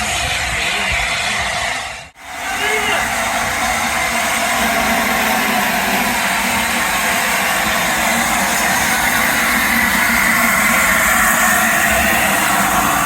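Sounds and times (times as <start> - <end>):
faint high whine: 0.0 - 13.0
train rumbling: 0.0 - 13.0.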